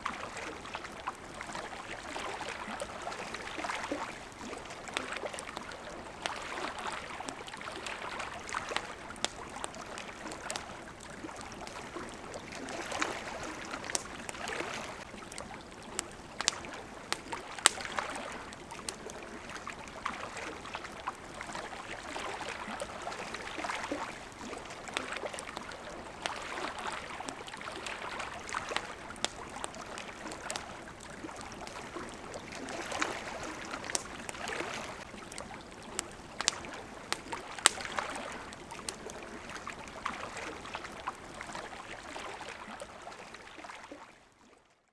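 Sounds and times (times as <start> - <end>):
campfire crackling: 0.0 - 42.6
water lapping at shore: 0.0 - 44.9.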